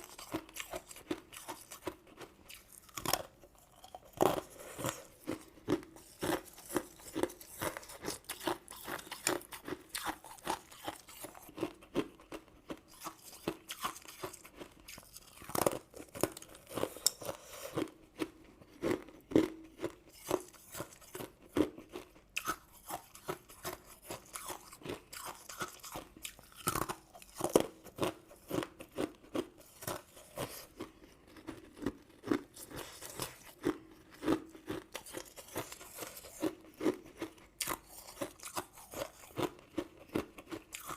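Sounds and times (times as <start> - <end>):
crunching and chewing sweets: 0.0 - 40.9.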